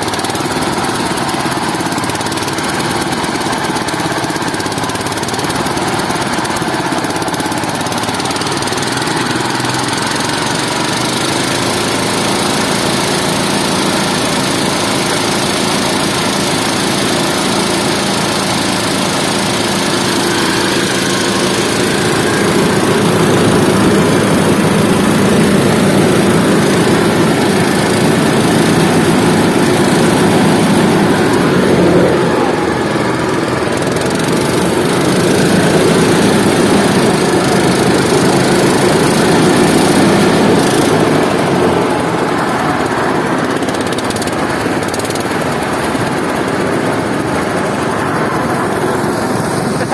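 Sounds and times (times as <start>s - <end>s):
harvester engine running: 0.0s - 49.9s.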